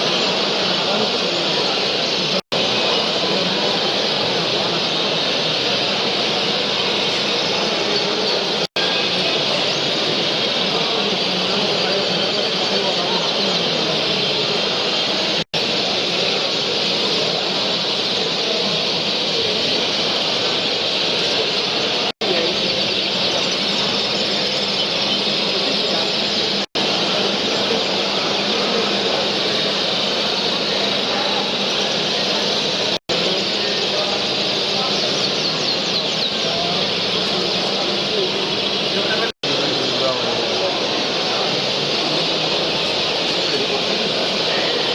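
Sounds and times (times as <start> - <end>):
canaries chirping and singing: 0.0 - 44.9
faint murmur of voices: 0.0 - 44.9.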